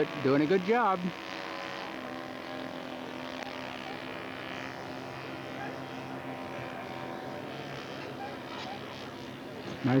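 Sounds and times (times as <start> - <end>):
model airplane engines droning: 0.0 - 10.0.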